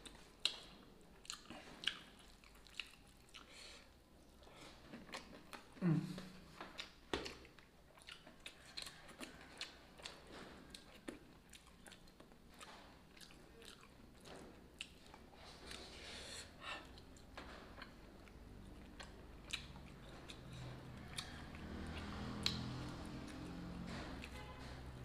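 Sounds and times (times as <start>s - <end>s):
chewing with wet smacks: 0.0s - 15.9s, 16.5s - 25.0s.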